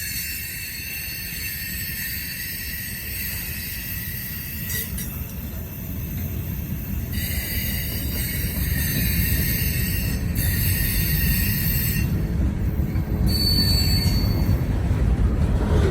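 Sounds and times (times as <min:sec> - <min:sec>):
high-pitched wheel squeal: 0:00.0 - 0:14.7
train wheels rumbling on rails: 0:00.0 - 0:15.9.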